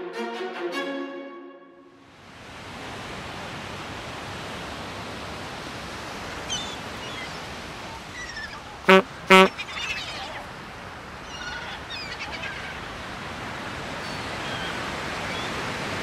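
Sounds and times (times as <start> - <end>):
ocean surf on beach: 2.0 - 16.0.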